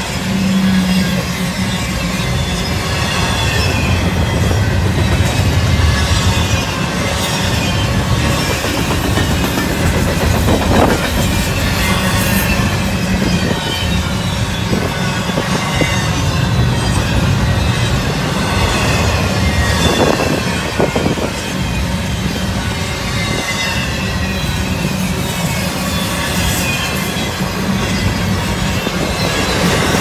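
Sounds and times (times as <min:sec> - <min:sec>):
high wheel squeal: 0:00.0 - 0:30.0
train wheels rolling on rails: 0:00.0 - 0:30.0.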